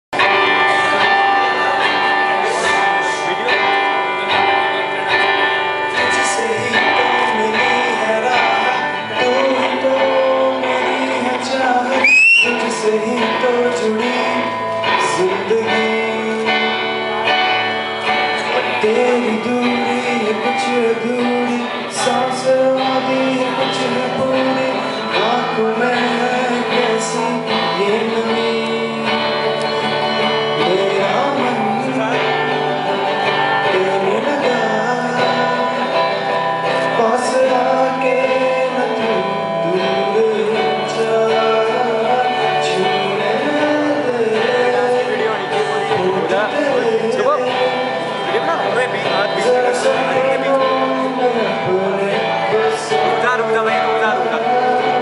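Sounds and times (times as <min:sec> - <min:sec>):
acoustic guitar playing: 0:00.1 - 0:55.0
young men singing through microphones: 0:05.8 - 0:55.0.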